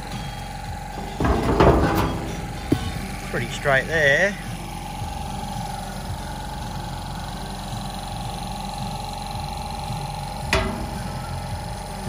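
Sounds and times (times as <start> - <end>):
machinery humming and whining: 0.0 - 12.0.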